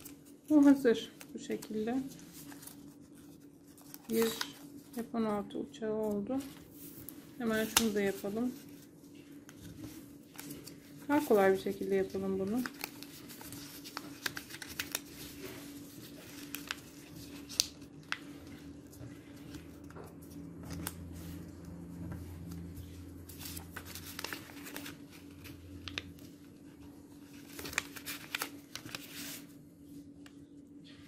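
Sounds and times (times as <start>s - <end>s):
paper rustling and crinkling: 0.0s - 5.2s, 6.0s - 31.0s
faint steady hum: 0.0s - 31.0s.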